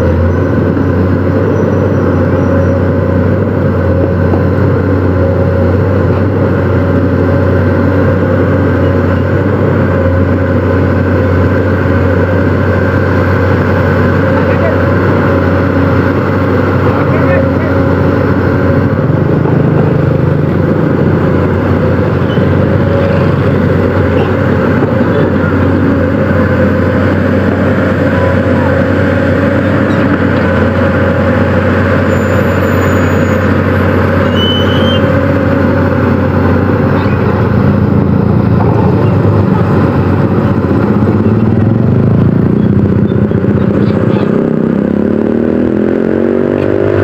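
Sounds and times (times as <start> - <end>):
excavator diesel engine under load: 0.0 - 47.0.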